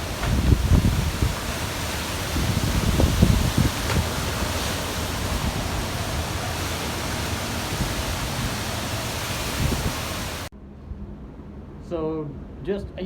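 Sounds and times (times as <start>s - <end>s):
heavy rain: 0.0s - 10.5s
wind buffeting microphone: 0.0s - 10.5s
hurricane wind: 0.0s - 13.0s.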